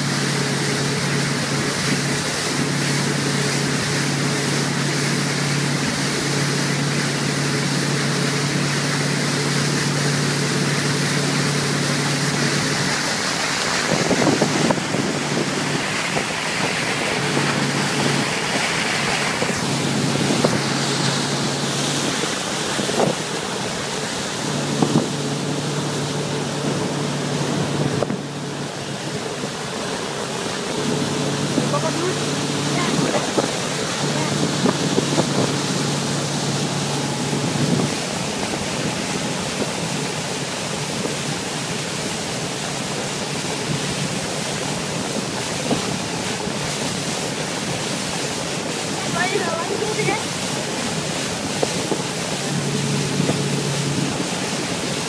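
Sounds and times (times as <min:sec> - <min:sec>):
motorboat engine hum: 0:00.0 - 0:55.0
water rushing in boat wake: 0:00.0 - 0:55.0
wind buffeting microphone: 0:09.5 - 0:55.0.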